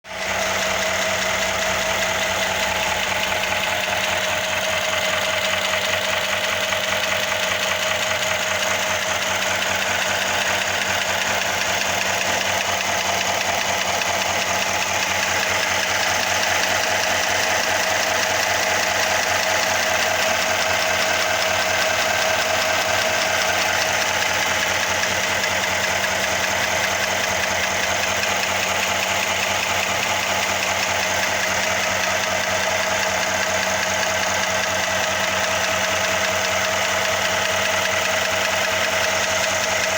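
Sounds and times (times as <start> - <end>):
car engine idling: 0.0 - 39.9
rapid engine ticking: 0.0 - 39.9.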